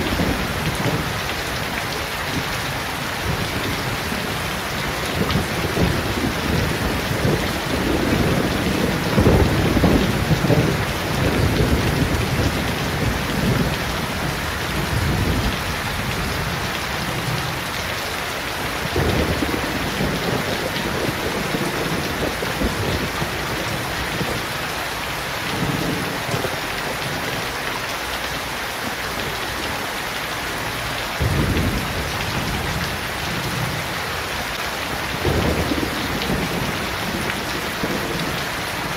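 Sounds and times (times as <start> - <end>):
rain on leaves and pavement: 0.0 - 38.9.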